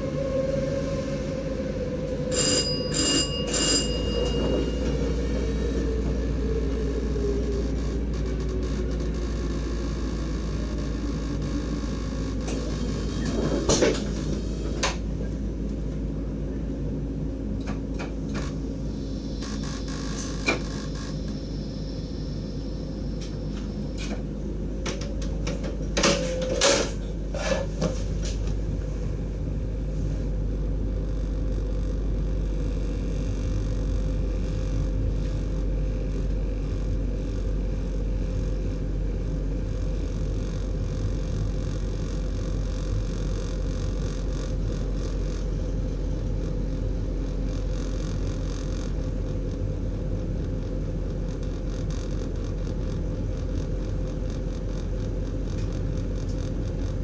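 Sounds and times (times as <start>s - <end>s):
train cab hum and rumble: 0.0s - 57.0s.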